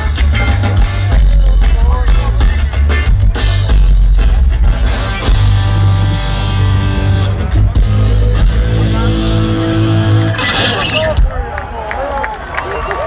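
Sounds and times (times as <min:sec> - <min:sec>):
electric guitar: 0:00.0 - 0:11.4
bass guitar: 0:00.0 - 0:11.5
drums: 0:00.0 - 0:11.8.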